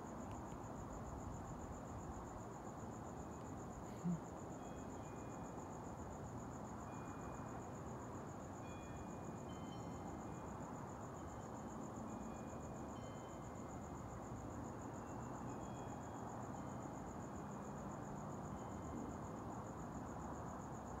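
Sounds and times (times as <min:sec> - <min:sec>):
cricket chirping: 0:00.0 - 0:21.0
low background hiss: 0:00.0 - 0:21.0.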